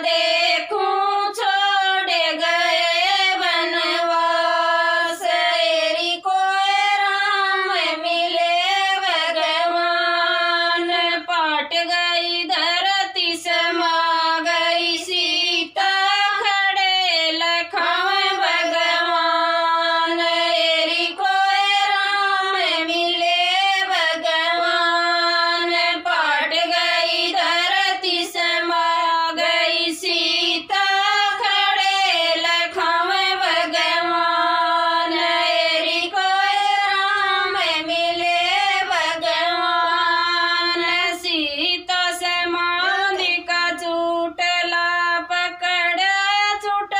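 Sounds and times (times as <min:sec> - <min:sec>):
women singing in unison: 0:00.0 - 0:46.9.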